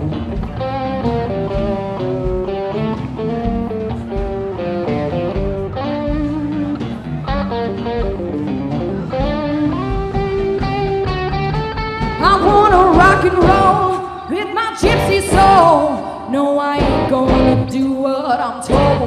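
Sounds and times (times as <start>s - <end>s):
bass guitar: 0.0s - 16.2s, 16.8s - 19.0s
drums: 0.0s - 19.0s
electric guitar melody: 0.0s - 19.0s.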